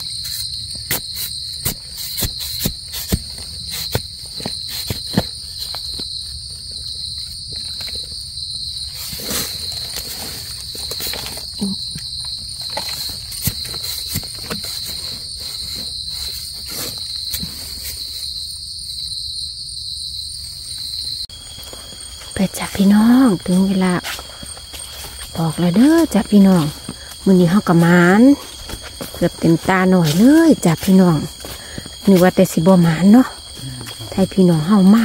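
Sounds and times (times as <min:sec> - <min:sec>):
shrill insect chorus: 0:00.0 - 0:35.0.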